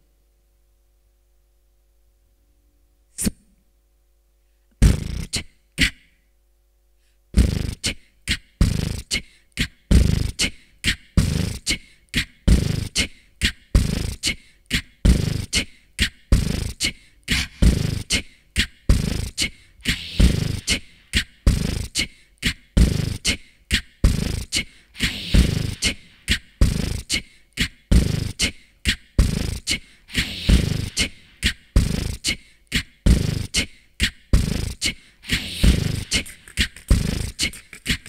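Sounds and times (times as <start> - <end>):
beatboxing into a microphone: 3.1 - 3.4, 4.8 - 6.2, 7.3 - 38.0.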